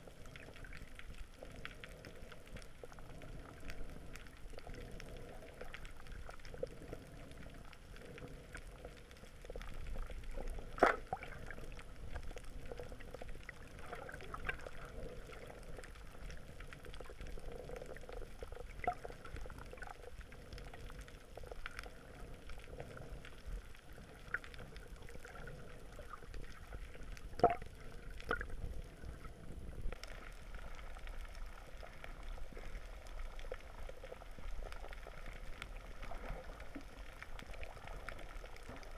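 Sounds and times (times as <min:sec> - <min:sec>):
muffled underwater bubbling: 0:00.0 - 0:38.9
underwater clicks: 0:00.2 - 0:32.8.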